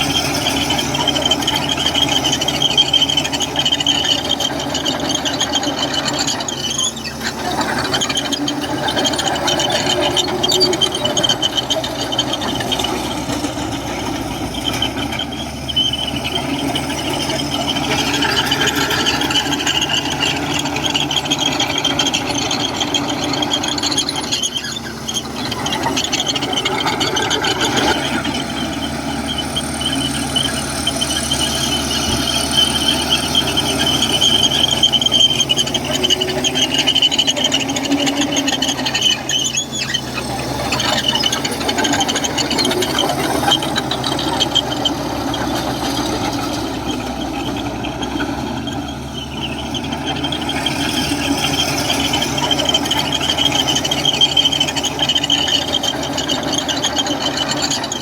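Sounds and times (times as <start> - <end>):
bulldozer diesel engine running: 0.0 - 58.0
steel tracks squealing: 0.0 - 58.0.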